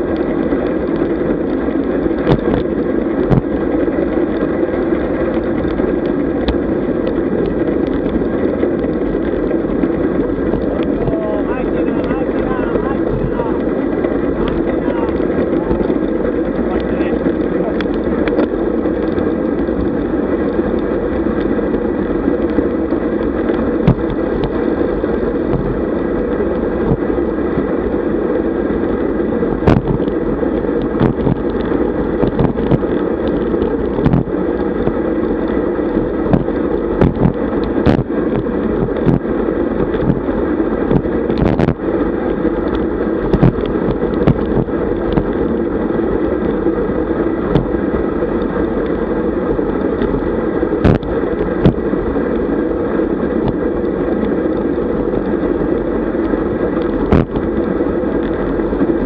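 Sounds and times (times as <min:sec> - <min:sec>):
wind and road rumble: 0:00.0 - 0:59.0.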